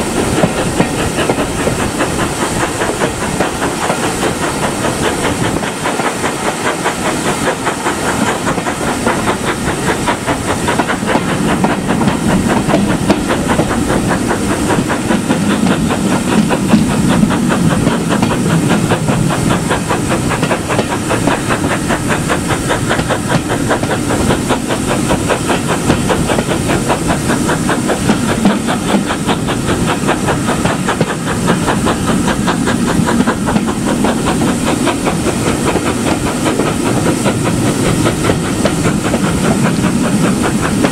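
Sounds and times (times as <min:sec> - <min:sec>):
steam hissing: 0:00.0 - 0:40.9
steam locomotive beats: 0:00.0 - 0:40.9.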